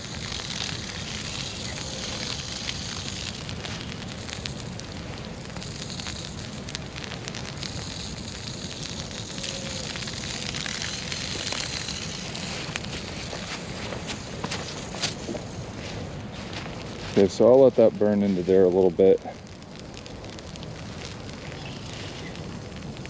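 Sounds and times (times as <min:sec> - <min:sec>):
dry grass burning crackling: 0:00.0 - 0:23.0
low fire rumble: 0:00.0 - 0:23.0.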